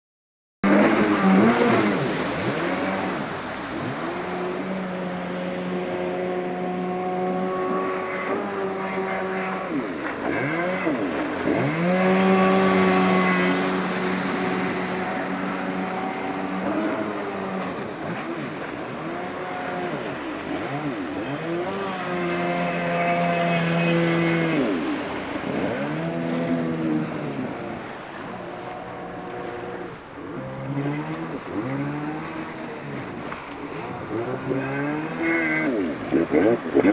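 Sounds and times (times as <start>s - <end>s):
jet ski engine revving: 0.6s - 36.9s
rush of spray: 0.6s - 36.9s.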